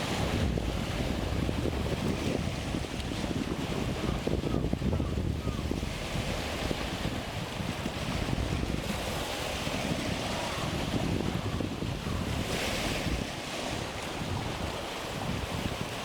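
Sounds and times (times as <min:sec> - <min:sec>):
choppy sea waves breaking: 0:00.0 - 0:16.0
strong wind buffeting microphone: 0:00.0 - 0:16.0.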